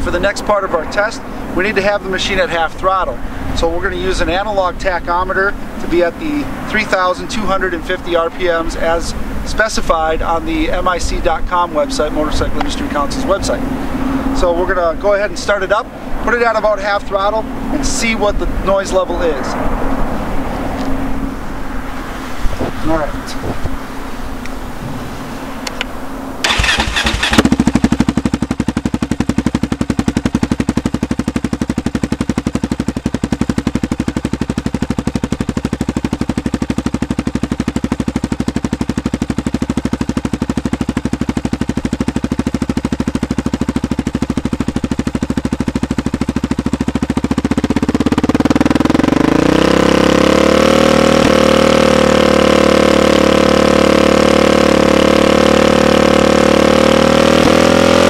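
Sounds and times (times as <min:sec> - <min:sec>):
loud atv engine idling and revving: 0:00.0 - 0:21.9, 0:22.6 - 0:58.0.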